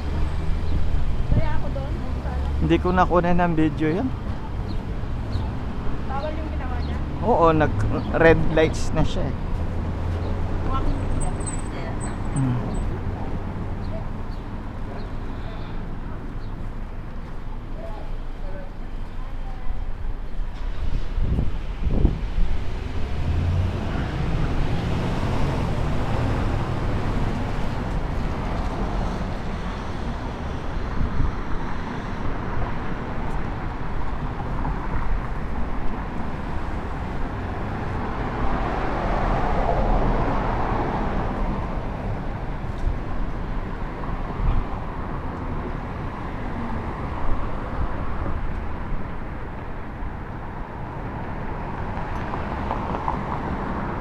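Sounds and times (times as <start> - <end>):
street traffic: 0.0 - 54.0
streetcar running rumble: 0.0 - 54.0.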